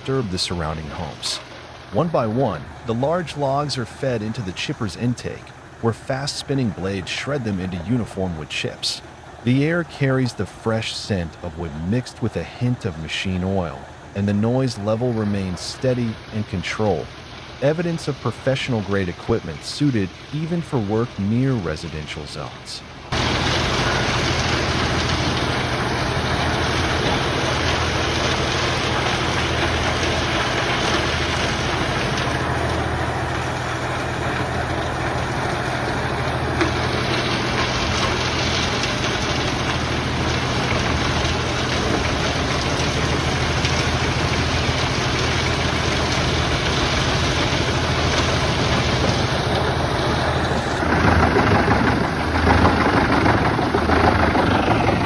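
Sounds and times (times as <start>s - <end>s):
tractor engine hum: 0.0s - 55.0s
wood chipper rushing noise: 0.0s - 55.0s.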